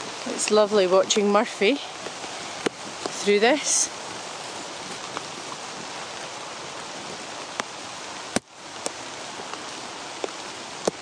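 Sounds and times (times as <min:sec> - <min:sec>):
rain on leafy undergrowth: 0:00.0 - 0:11.0.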